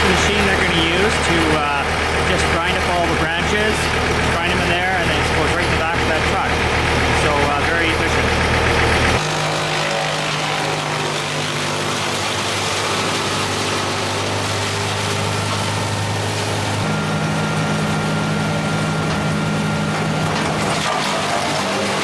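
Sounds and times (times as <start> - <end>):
brush chipper engine running: 0.0 - 22.0.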